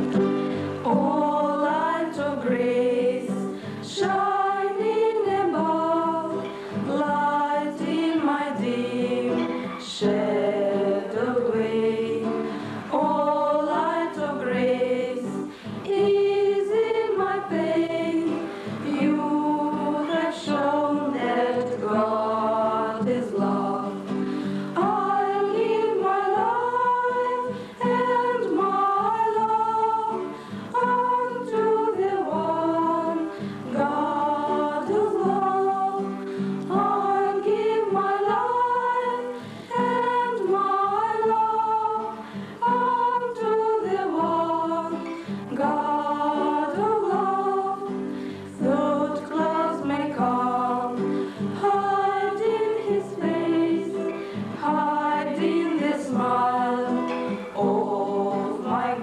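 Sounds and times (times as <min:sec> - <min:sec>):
women singing a religious song: 0:00.0 - 0:59.0.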